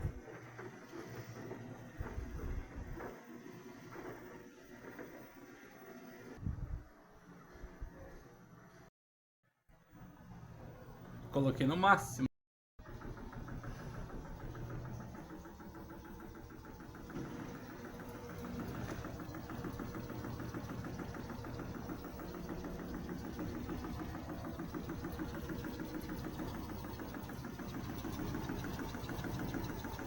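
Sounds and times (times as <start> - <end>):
washing machine spin cycle hum: 0.0 - 8.9, 9.9 - 30.0.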